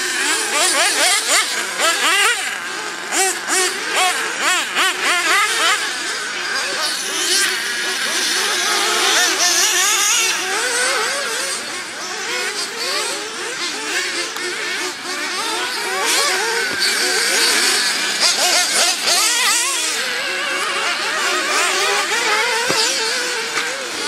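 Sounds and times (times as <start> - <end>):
small engines revving: 0.0 - 24.0.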